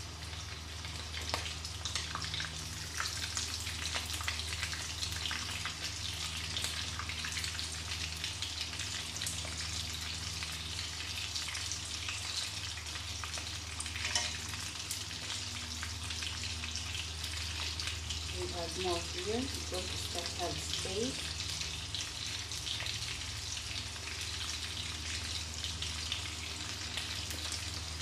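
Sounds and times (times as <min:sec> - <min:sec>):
prawns sizzling in hot oil: 0:00.0 - 0:28.0.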